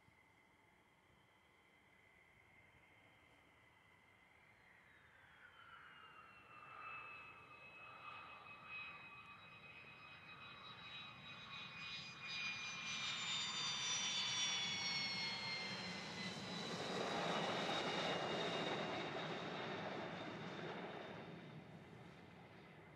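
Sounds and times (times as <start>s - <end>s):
jet engine whines: 1.1s - 22.9s.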